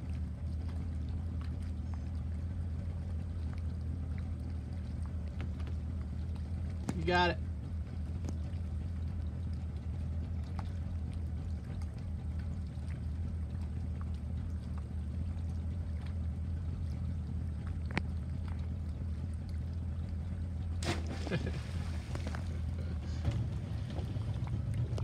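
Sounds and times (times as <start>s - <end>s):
boat low rumble: 0.0s - 25.0s.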